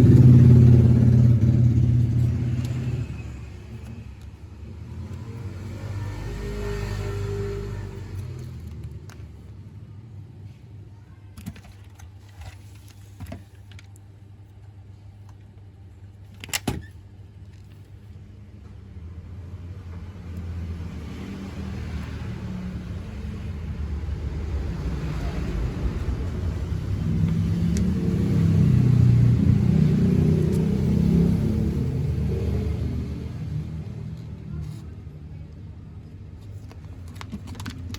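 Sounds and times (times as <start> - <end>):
low vehicle engine rumble: 0.0 - 37.9.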